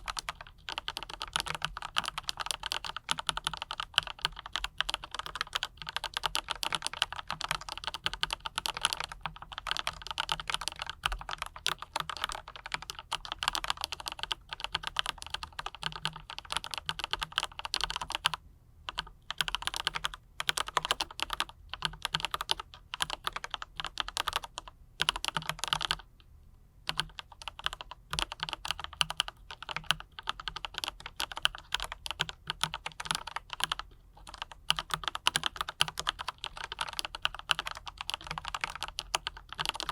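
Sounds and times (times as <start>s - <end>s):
fast typing on mechanical keyboard: 0.0s - 26.1s, 26.9s - 39.9s.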